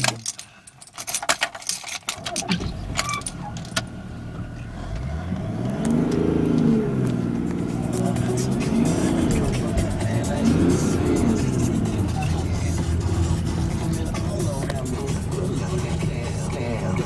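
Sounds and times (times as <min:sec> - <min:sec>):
sharp clicks and rattles: 0:00.0 - 0:03.9, 0:05.0 - 0:17.0
car engine revving: 0:02.5 - 0:17.0.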